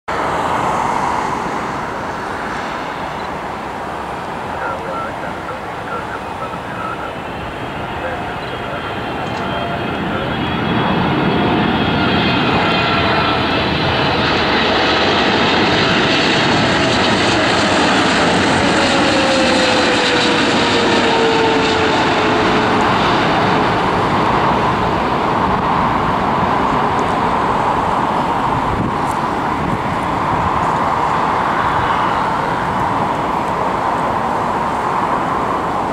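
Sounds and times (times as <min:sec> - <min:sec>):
jet engine whine: 0:00.1 - 0:35.9
jet engines rumbling: 0:00.1 - 0:35.9.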